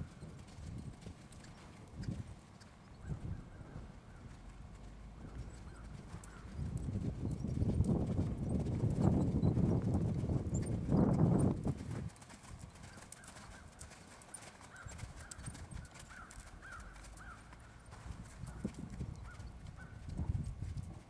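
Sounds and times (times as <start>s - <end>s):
horse hoofbeats cantering on sand: 0.0s - 21.0s.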